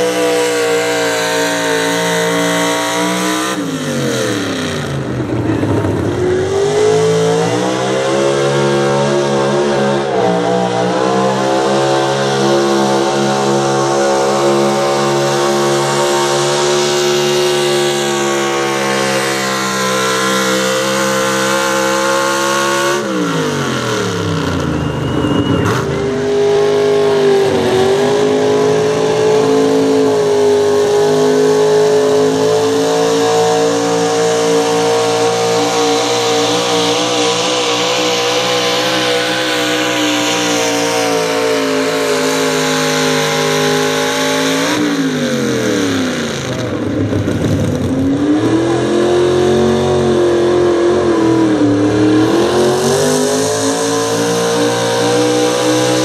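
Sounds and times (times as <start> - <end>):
truck engine revving under load: 0.0 - 56.0.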